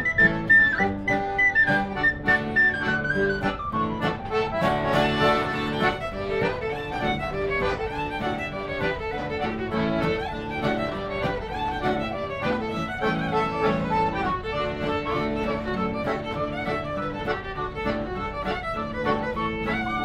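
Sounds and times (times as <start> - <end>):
acoustic guitar strumming: 0.0 - 20.0
fiddle melody: 0.0 - 20.0.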